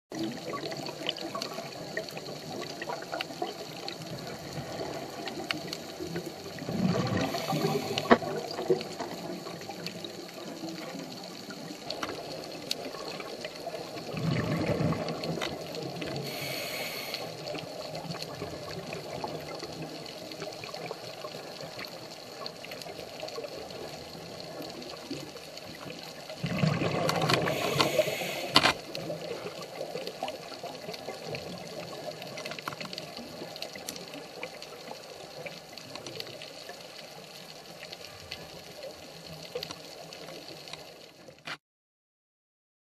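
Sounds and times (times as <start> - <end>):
exhaled bubbles underwater: 0.1 - 41.0
underwater hiss with crackling: 0.2 - 41.4.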